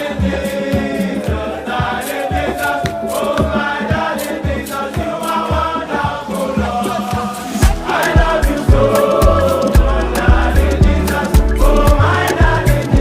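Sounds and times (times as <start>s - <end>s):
choral singing over a beat: 0.0s - 13.0s.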